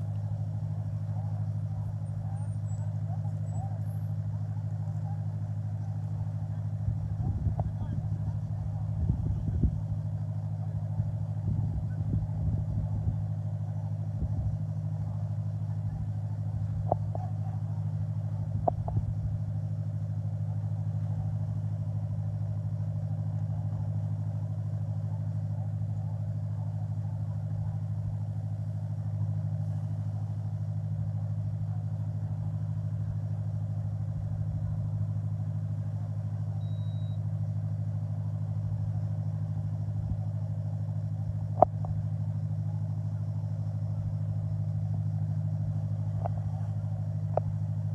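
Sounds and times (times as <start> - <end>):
motor engine droning: 0.0 - 47.9.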